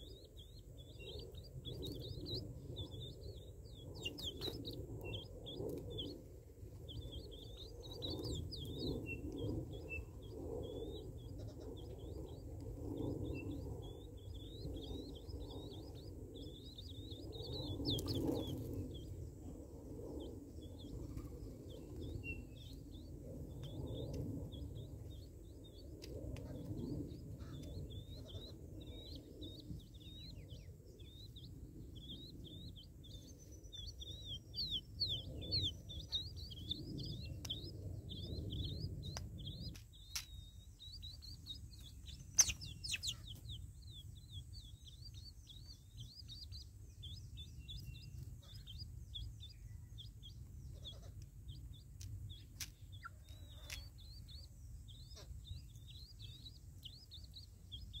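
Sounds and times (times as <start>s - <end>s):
low wind rumble: 0.0s - 58.0s
small birds chirping: 0.0s - 58.0s.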